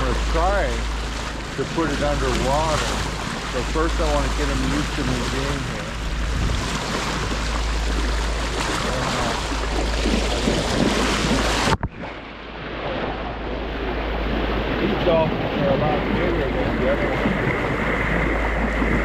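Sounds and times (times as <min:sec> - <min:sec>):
water rushing along a boat: 0:00.0 - 0:19.0
wind buffeting microphone: 0:00.0 - 0:19.0.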